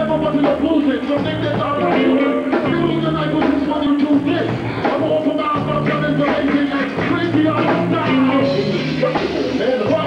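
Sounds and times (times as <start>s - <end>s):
held bass notes: 0.0s - 10.0s
live rock band: 0.0s - 10.0s.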